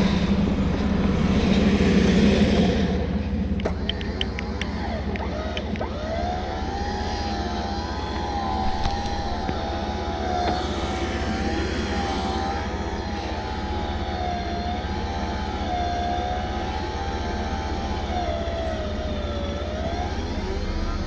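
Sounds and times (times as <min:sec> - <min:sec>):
steady low drone: 0:00.0 - 0:21.0
winch motor whining: 0:00.0 - 0:21.0.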